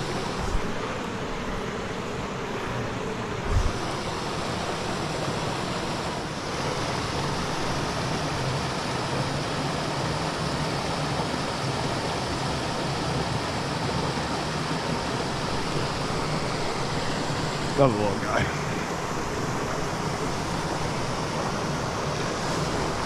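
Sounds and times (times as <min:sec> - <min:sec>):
stream water flowing over rocks: 0:03.7 - 0:23.0.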